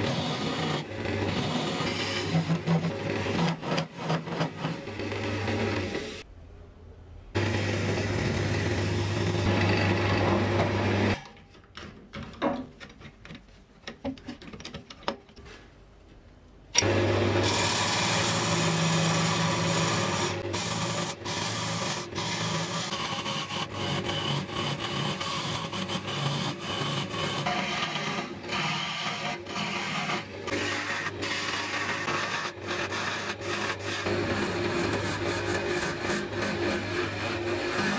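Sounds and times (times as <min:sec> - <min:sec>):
gouge scraping spinning wood: 0:00.0 - 0:06.2, 0:07.4 - 0:11.2, 0:16.8 - 0:37.9
wood lathe humming: 0:00.0 - 0:06.2, 0:07.4 - 0:11.2, 0:16.8 - 0:37.9.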